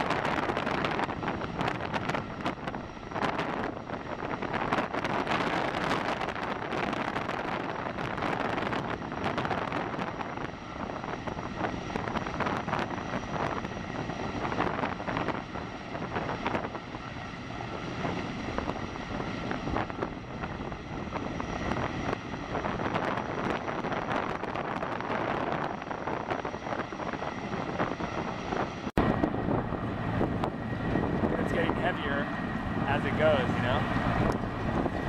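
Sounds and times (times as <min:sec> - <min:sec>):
helicopter rotor and turbine: 0:00.0 - 0:35.0.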